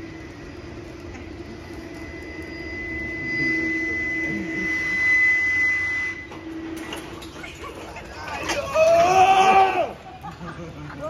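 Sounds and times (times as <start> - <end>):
ride motor whining: 0.0 - 11.0.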